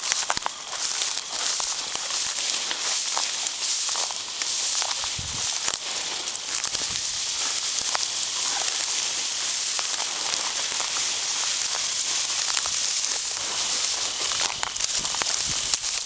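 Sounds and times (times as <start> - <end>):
dry grass rustling and crackling: 0.0 - 16.0.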